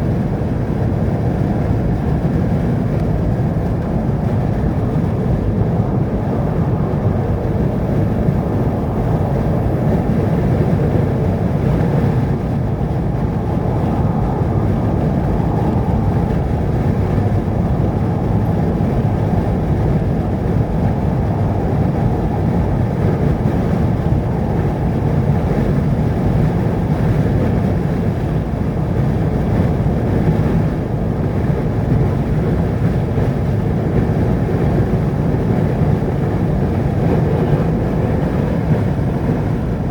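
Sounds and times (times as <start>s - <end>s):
vehicle road and engine rumble: 0.1s - 39.9s.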